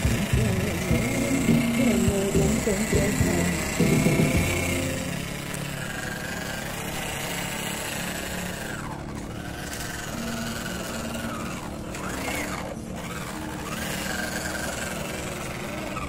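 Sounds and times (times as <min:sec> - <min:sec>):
toy car electric motor whining: 0:00.0 - 0:16.0.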